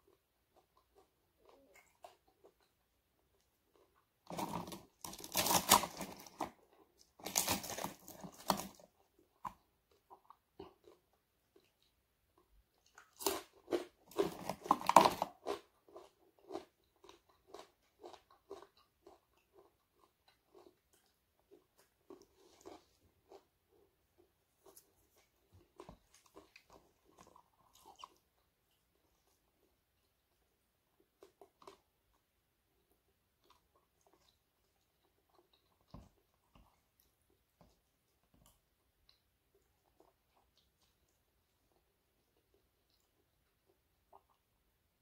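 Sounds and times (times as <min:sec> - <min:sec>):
quiet chewing: 0:00.0 - 0:45.0.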